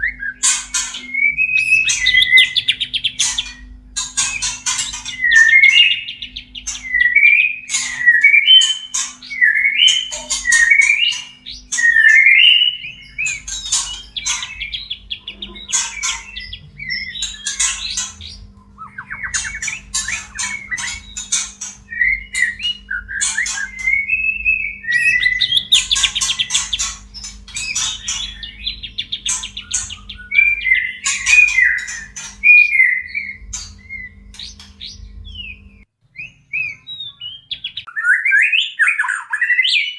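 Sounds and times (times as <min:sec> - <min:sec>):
faint steady hum: 0:00.0 - 0:37.9
bird chattering trills: 0:00.0 - 0:39.9
birds whistling phrases: 0:00.0 - 0:39.9.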